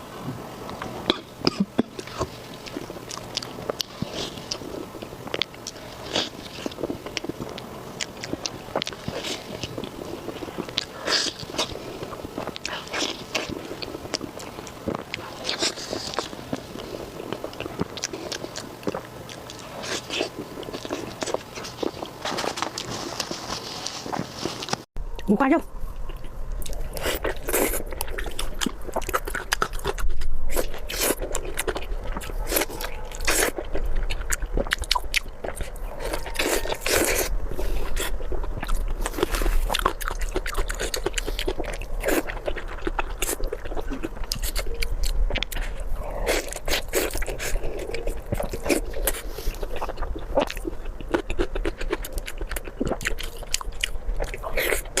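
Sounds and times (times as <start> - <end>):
person chewing food: 0.0 - 25.2, 25.8 - 55.0.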